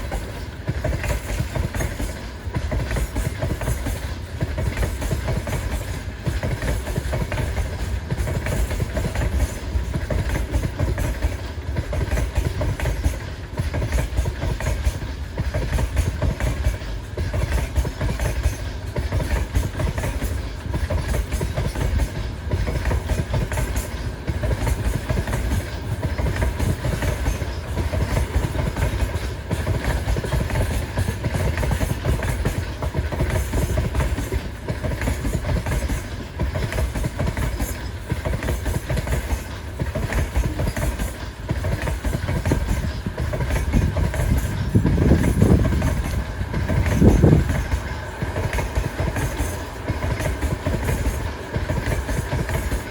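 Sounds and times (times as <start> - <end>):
train wagons rumbling past: 0.0 - 52.9.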